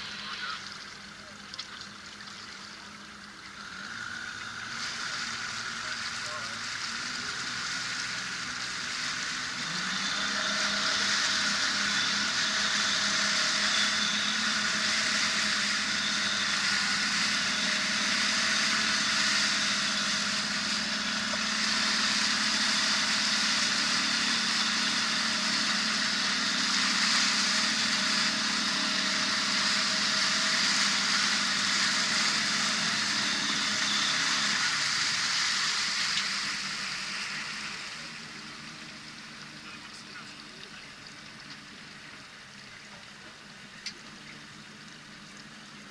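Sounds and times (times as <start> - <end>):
boat motor running: 0.0 - 45.9
rushing hiss of water: 3.6 - 40.8.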